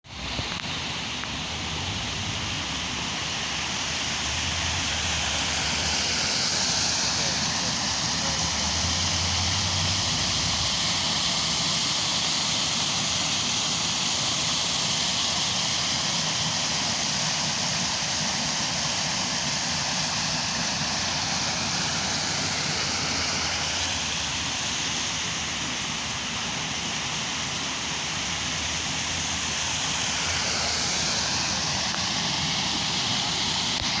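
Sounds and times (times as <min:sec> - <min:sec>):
waterfall rushing: 0:00.1 - 0:34.0.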